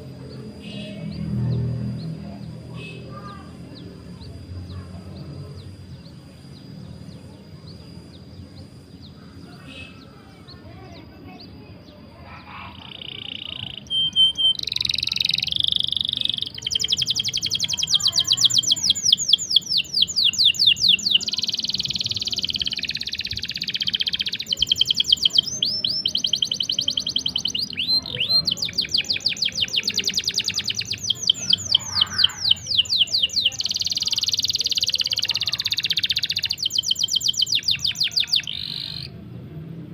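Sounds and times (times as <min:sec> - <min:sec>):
canary singing trills: 0:00.0 - 0:39.2.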